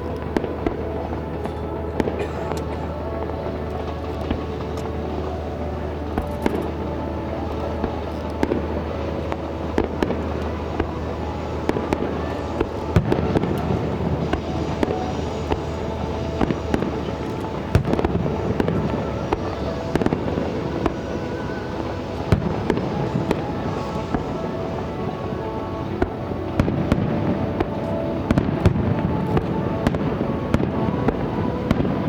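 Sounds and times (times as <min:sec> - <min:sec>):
fireworks crackling: 0:00.0 - 0:32.0
fireworks cracks and bangs: 0:00.0 - 0:32.0
low steady hum: 0:00.0 - 0:32.0.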